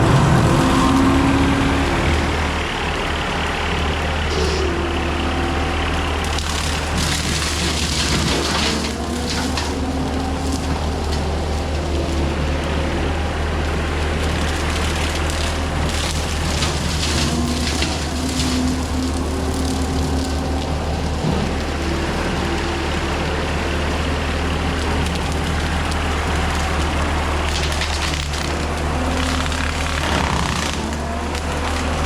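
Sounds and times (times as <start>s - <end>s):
diesel engine drone: 0.0s - 32.0s
hydraulic brush cutter whining: 0.0s - 32.0s.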